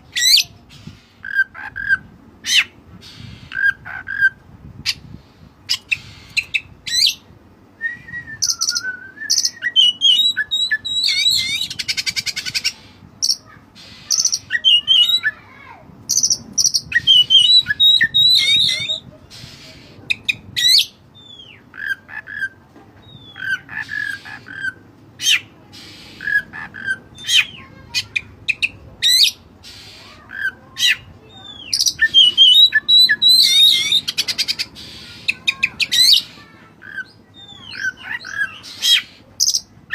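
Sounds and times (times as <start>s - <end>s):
magpie-robin singing: 0.0s - 7.3s, 7.9s - 15.4s, 16.1s - 39.9s.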